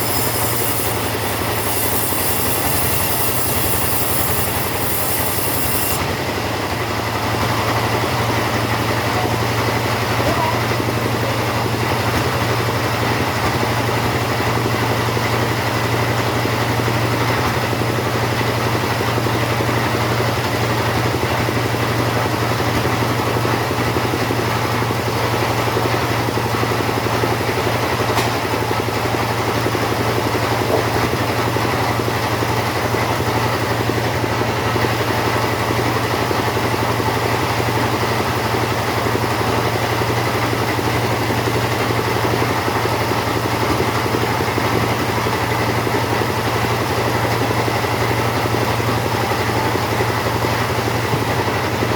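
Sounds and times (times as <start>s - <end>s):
two-stroke chainsaw running: 0.0s - 51.9s.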